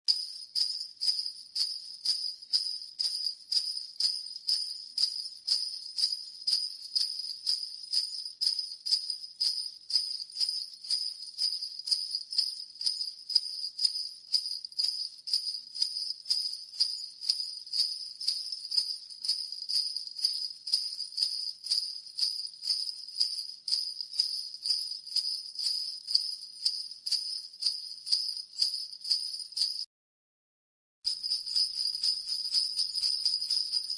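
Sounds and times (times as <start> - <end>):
sleigh bells jingling: 0.1 - 29.9, 31.1 - 33.9.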